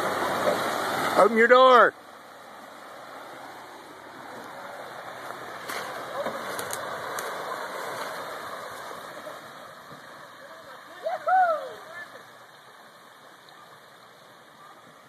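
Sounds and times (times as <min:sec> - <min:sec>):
water rushing and sloshing: 0:00.0 - 0:15.0.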